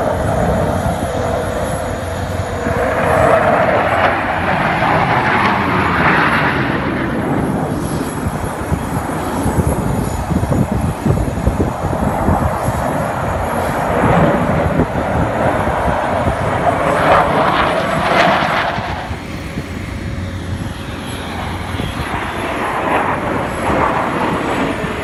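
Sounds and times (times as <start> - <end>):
fighter jets flying overhead: 0.0 - 25.0.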